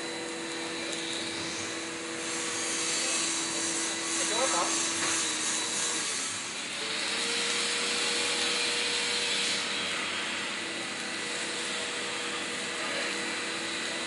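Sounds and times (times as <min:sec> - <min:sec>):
welding arc hissing: 0:00.0 - 0:14.0.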